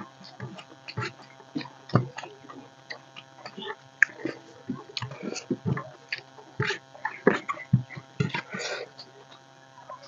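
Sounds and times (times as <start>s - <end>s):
people chewing: 0.0s - 9.5s.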